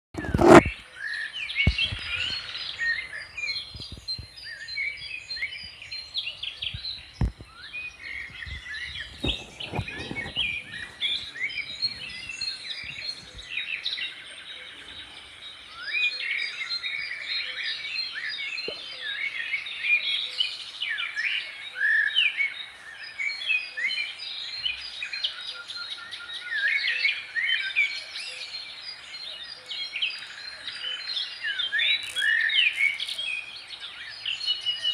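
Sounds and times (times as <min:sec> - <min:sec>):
small birds chirping and singing: 0:00.2 - 0:34.9.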